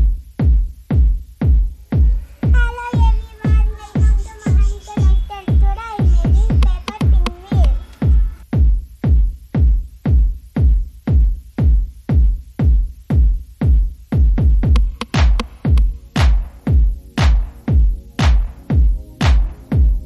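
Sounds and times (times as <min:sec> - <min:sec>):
electronic dance music: 0:00.0 - 0:20.0.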